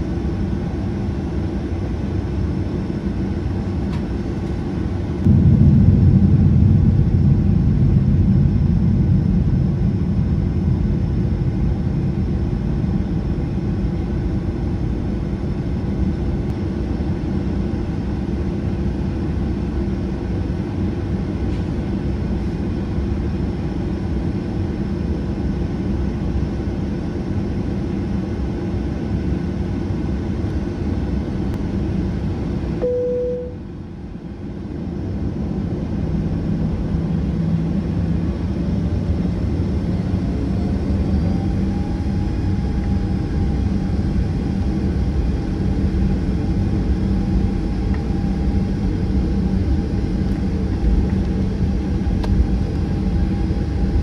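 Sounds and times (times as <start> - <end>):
jet engines low rumble in cabin: 0.0 - 54.0.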